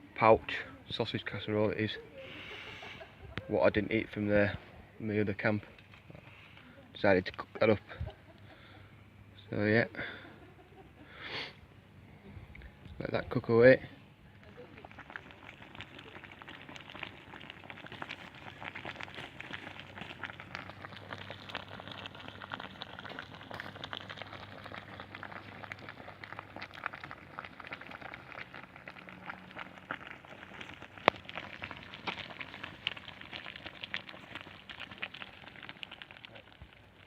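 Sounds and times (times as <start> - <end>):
wood fire crackling: 0.0 - 8.6, 12.5 - 37.0.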